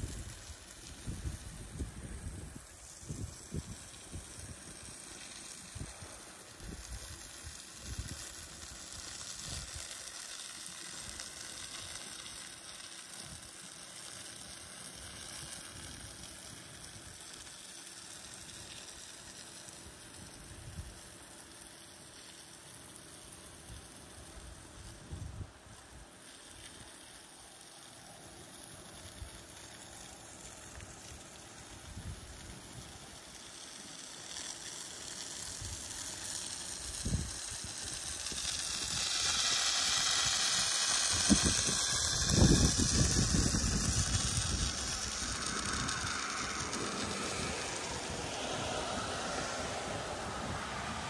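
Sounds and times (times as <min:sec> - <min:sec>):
spray wand hissing: 0:00.0 - 0:51.0.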